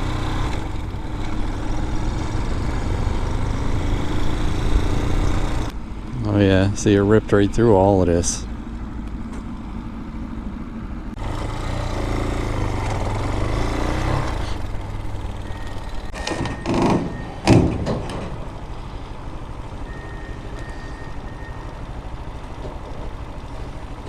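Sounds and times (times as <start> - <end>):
heavy truck engine running: 0.0 - 24.0.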